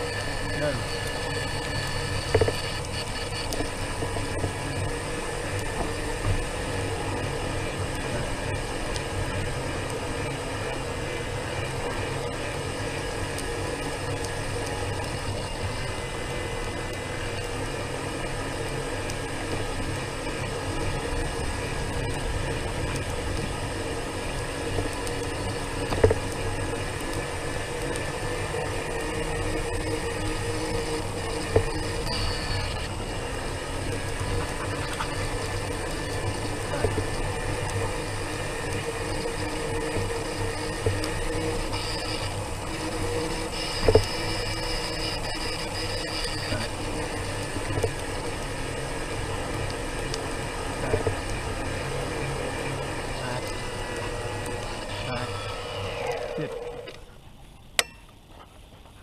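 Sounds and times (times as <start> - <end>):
scooter motor hum: 0.0 - 59.0.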